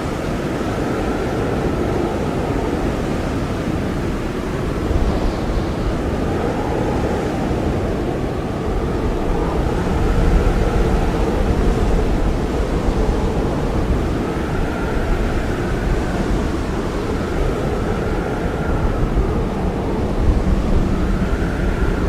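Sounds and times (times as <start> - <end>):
blizzard wind howling: 0.0 - 22.0.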